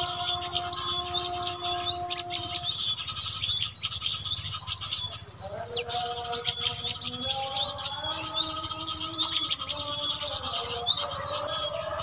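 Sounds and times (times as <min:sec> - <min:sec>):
small birds chirping from speaker: 0:00.0 - 0:12.0.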